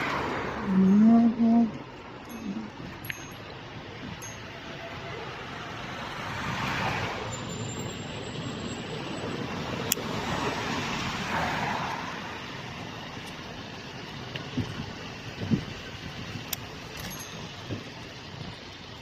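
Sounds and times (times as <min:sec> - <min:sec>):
cars passing on road: 0:00.0 - 0:19.0.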